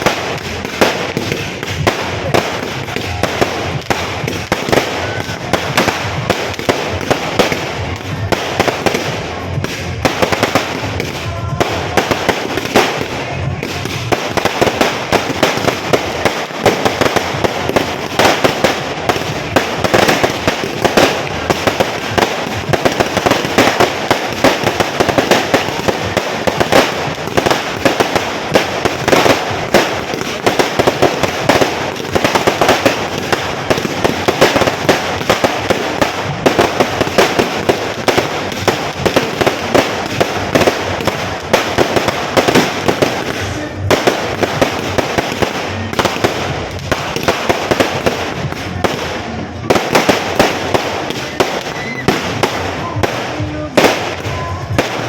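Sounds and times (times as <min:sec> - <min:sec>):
firecrackers banging: 0:00.0 - 0:55.0.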